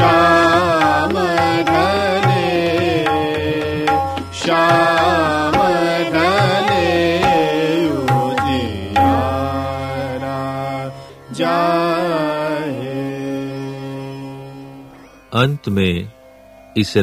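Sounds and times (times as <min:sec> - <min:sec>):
tabla: 0:00.0 - 0:14.8
person singing classical vocals: 0:00.0 - 0:14.9.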